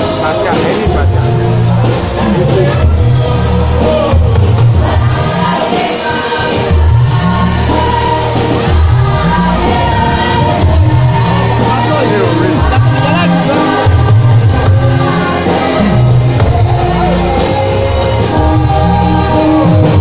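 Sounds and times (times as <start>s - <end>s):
electronic keyboard with heavy bass: 0.0s - 20.0s
youth choir singing: 0.0s - 20.0s.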